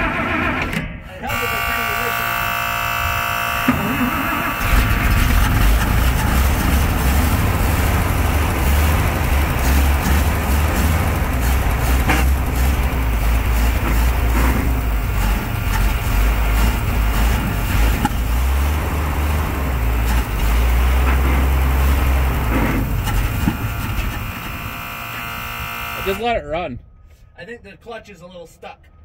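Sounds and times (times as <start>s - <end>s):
truck engine running: 1.1s - 26.4s.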